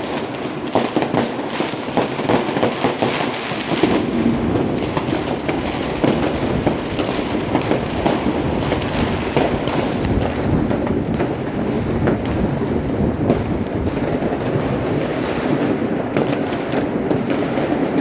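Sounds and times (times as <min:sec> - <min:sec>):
fireworks and firecrackers crackling: 0:00.0 - 0:18.0.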